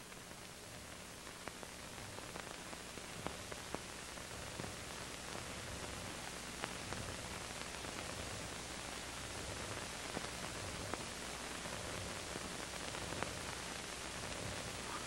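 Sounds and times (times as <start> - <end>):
faint hiss: 0.0 - 15.0
small crackles and clicks: 0.0 - 15.0.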